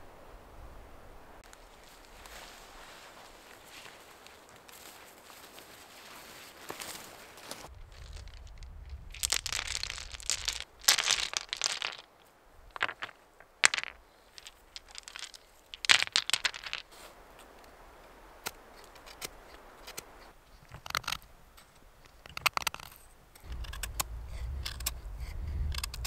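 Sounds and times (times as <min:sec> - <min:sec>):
rustling on dry forest ground: 0:00.0 - 0:22.4.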